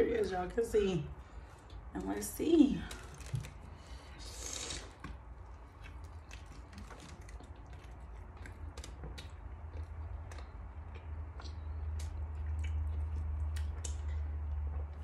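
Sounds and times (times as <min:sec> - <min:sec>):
low steady hum: 0:00.0 - 0:15.0
crackles of biting a burger: 0:02.9 - 0:15.0.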